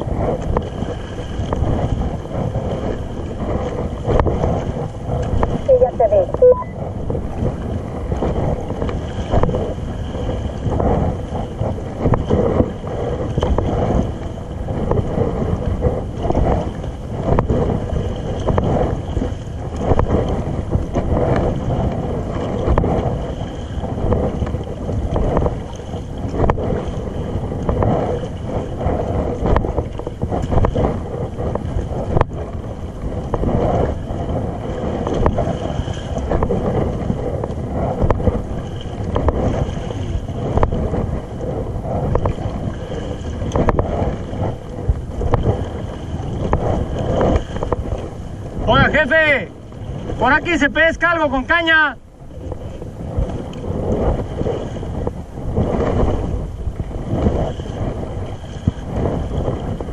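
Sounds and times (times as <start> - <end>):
water moving around kayak: 0.0 - 59.9
wind buffeting microphone: 0.0 - 59.9.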